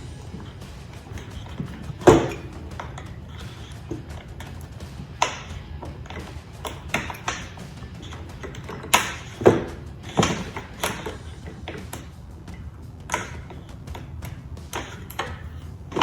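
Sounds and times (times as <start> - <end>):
low steady hum: 0.0 - 16.0
tools clicking and knocking: 0.0 - 16.0.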